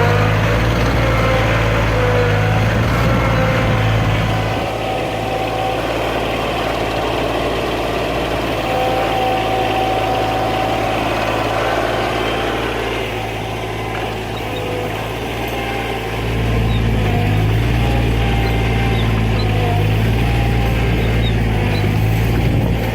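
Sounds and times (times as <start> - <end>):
heavy machine engine humming: 0.0 - 22.9
high engine whine: 0.0 - 22.9.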